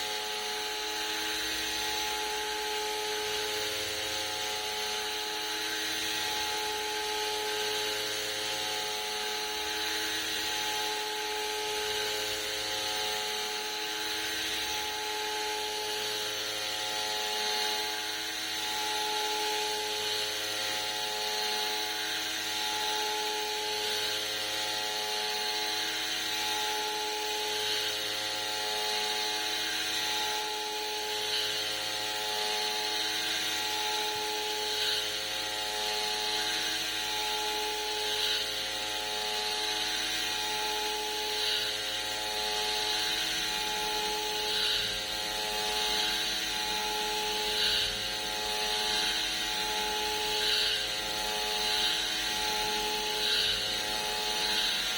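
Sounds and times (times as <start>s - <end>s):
milling machine whine: 0.0s - 54.9s.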